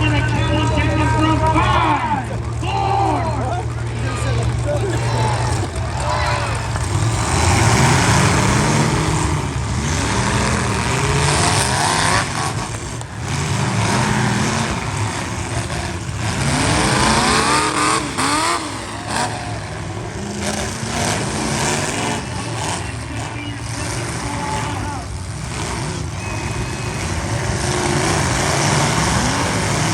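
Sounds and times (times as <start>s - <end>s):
car engines revving: 0.0s - 29.9s.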